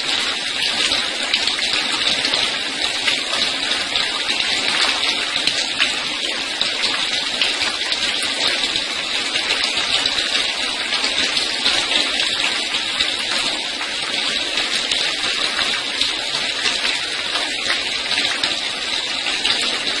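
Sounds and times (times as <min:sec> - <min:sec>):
water spray falling like rain: 0:00.0 - 0:20.0.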